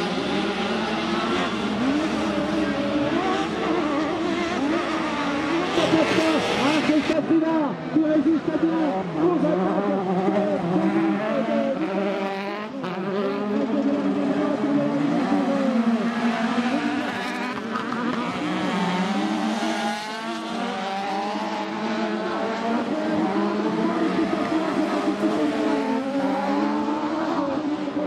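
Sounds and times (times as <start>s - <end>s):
buggy engines revving: 0.0s - 28.0s.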